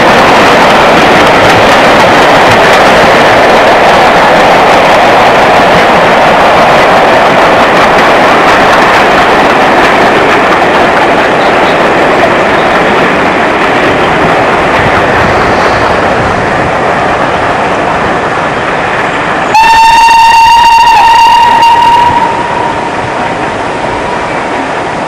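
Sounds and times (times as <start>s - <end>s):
steam locomotive rushing noise: 0.0s - 25.0s.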